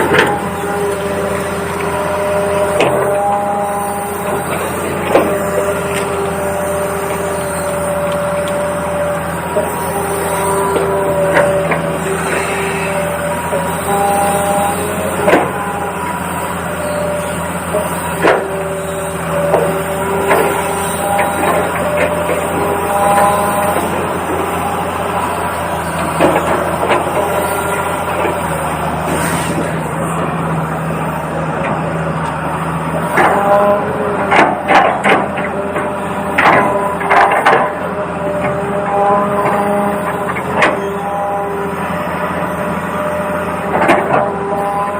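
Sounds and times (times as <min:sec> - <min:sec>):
toy excavator motor hum: 0:00.0 - 0:44.9.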